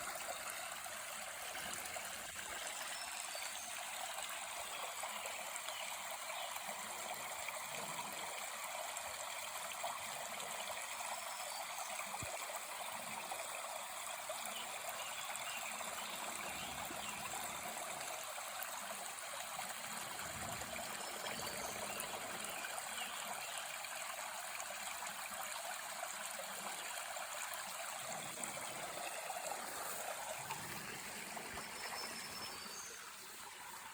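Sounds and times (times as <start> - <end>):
stream rushing and trickling: 0.0 - 33.9.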